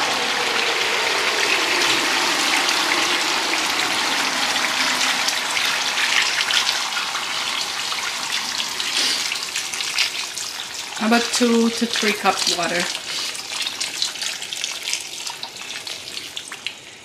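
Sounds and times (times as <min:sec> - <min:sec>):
food sizzling in a hot pan: 0:00.0 - 0:17.0
water pouring into a pan: 0:00.0 - 0:17.0.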